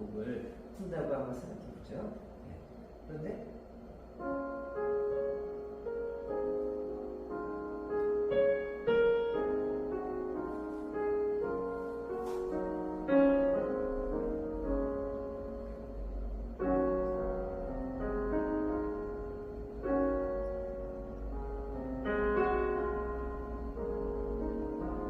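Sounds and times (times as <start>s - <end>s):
piano notes and chords: 4.0s - 25.0s.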